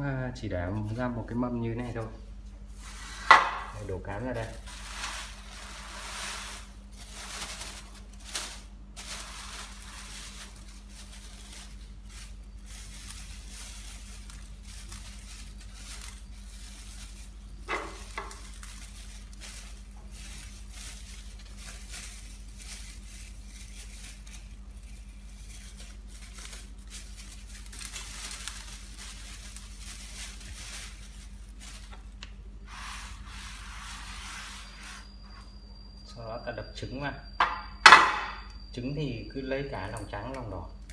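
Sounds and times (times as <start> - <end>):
plastic bag rustling: 0.4 - 35.5.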